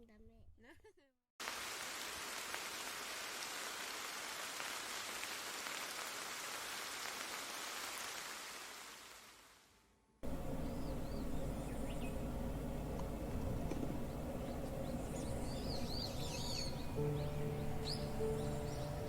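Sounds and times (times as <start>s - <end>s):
steady rain falling: 1.4s - 19.0s.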